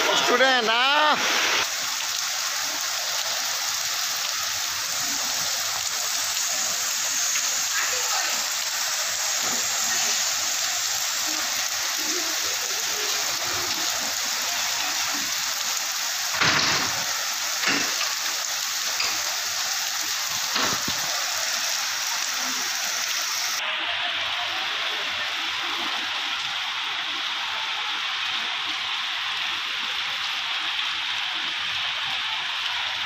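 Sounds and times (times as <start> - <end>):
torrential rain on standing water: 0.0 - 33.0.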